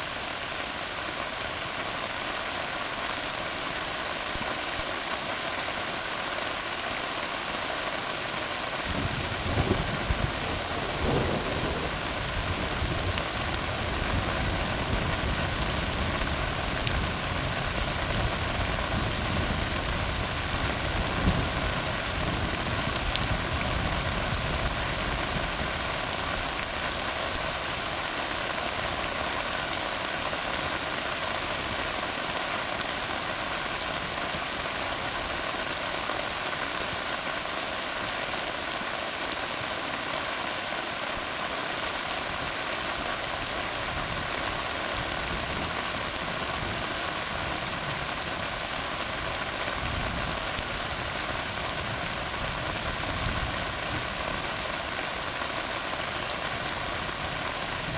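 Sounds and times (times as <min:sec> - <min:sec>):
rain on asphalt road: 0:00.0 - 0:57.9.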